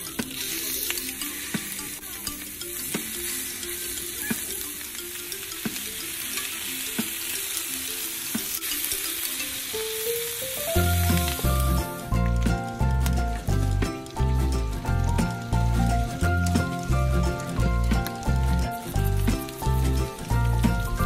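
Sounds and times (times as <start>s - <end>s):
pork sizzling on griddle: 0.0s - 21.0s
soft background music: 0.0s - 21.0s.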